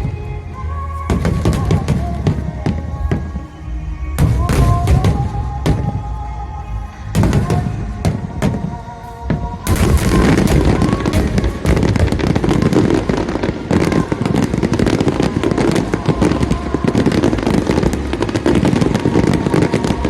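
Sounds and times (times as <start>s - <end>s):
fireworks booming and crackling: 0.0s - 3.6s, 4.2s - 6.2s, 7.1s - 20.0s
music: 0.0s - 20.0s.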